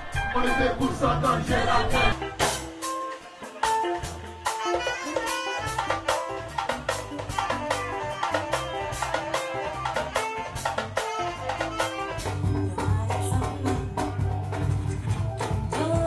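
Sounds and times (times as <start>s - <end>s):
bass line: 0.0s - 2.8s, 3.9s - 16.0s
horn lines: 0.0s - 14.6s
drums and percussion: 0.0s - 16.0s.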